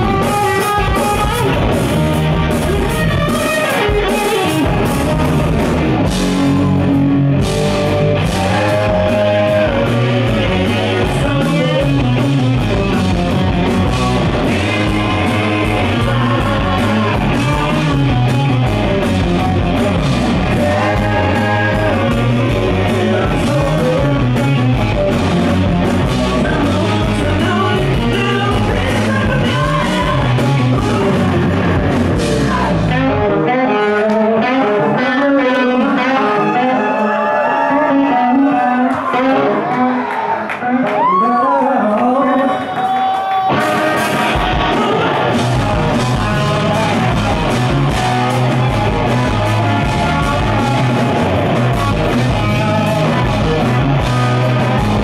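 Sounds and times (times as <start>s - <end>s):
rock band playing live: 0.0s - 41.2s, 42.2s - 55.0s
electric guitar: 0.0s - 55.0s.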